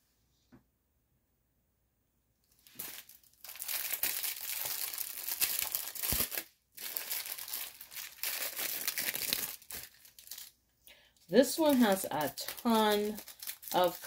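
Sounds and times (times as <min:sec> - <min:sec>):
plastic wrapping crinkling: 0:02.5 - 0:14.0.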